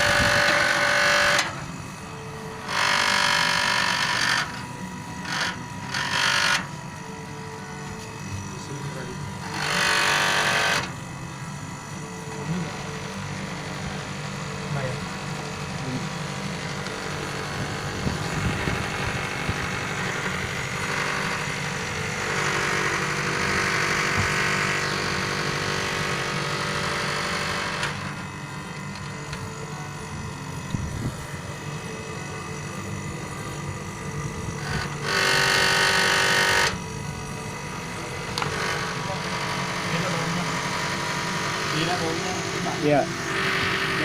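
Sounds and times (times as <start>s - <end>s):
air conditioner humming: 0.0s - 5.8s, 6.7s - 44.0s.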